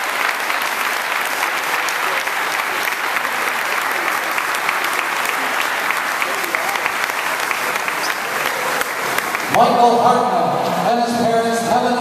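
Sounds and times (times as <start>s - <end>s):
crowd applauding: 0.0s - 10.3s.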